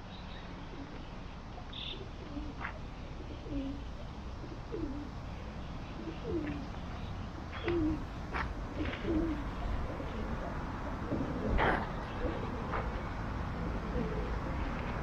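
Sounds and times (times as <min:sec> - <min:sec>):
pigeons cooing: 0:01.9 - 0:15.0.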